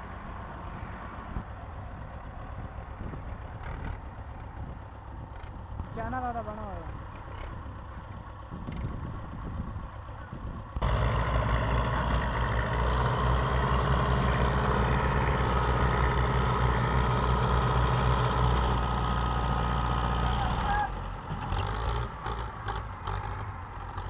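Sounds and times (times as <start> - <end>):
second tractor engine pushing: 0.0 - 24.0
tractor diesel engine under load: 0.0 - 24.0.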